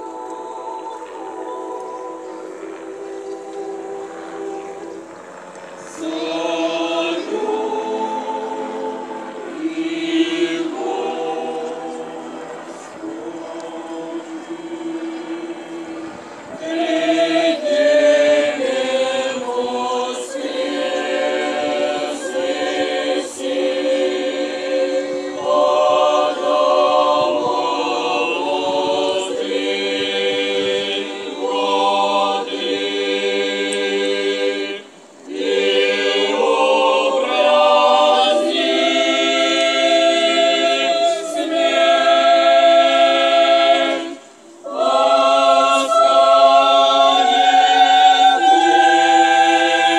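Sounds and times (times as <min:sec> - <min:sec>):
youth choir singing a cappella: 0:00.0 - 0:49.9.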